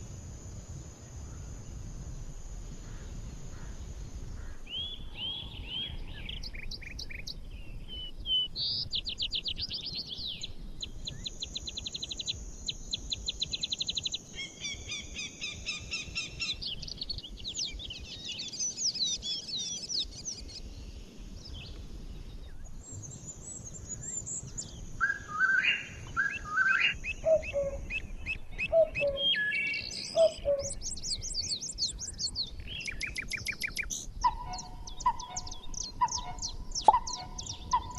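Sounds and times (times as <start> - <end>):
birds singing and twittering: 2.9 - 37.9.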